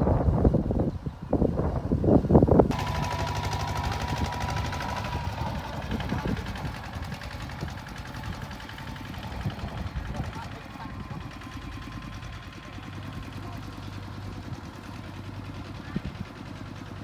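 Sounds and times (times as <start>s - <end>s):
wind buffeting microphone: 0.0s - 17.0s
combine harvester clattering: 2.7s - 17.0s.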